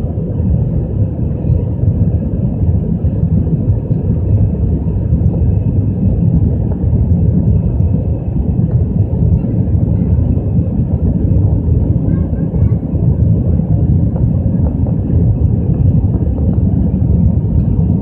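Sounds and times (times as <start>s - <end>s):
airliner engines rumbling in cabin: 0.0s - 18.0s
faint steady hum: 0.0s - 18.0s.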